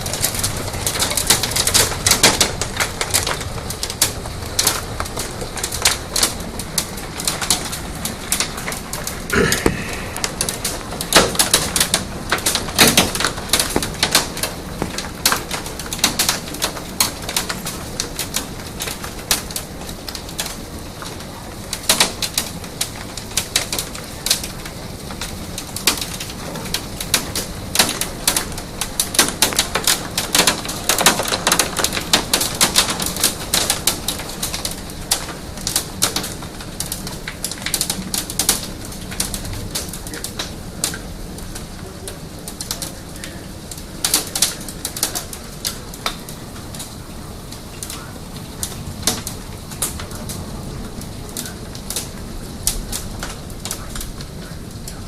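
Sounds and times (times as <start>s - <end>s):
hailstones clattering: 0.0s - 55.0s.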